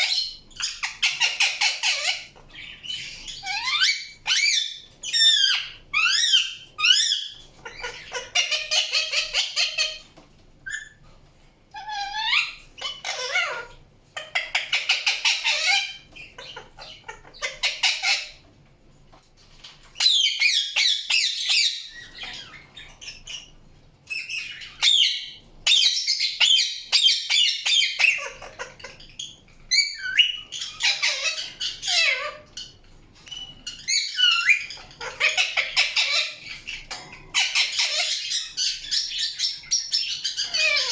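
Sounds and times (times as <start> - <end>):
parakeet squawking and screeching: 0.0 - 11.0, 11.7 - 18.5, 19.6 - 23.5, 24.1 - 40.9.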